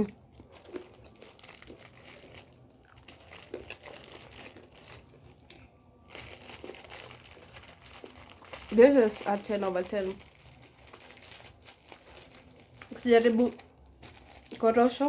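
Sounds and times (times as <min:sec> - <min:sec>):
plastic snack packet crinkling: 0:00.0 - 0:15.0.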